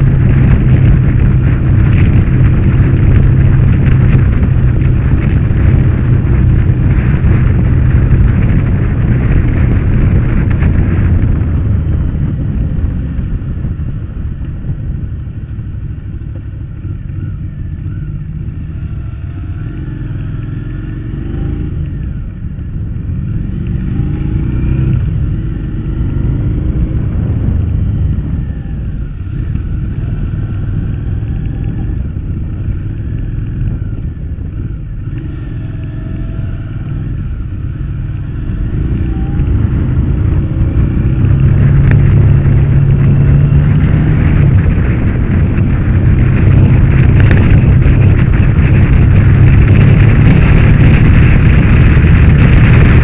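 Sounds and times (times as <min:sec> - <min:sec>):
motorcycle engine drone: 0:00.0 - 0:53.0
wind rush: 0:00.0 - 0:53.0.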